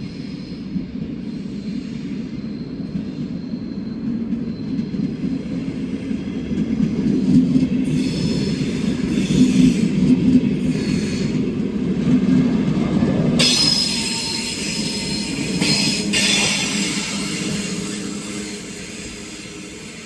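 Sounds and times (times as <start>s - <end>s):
wheel squeal and hiss: 0.0s - 6.0s, 7.8s - 11.6s, 13.4s - 20.0s
train rumbling along rails: 0.0s - 20.0s.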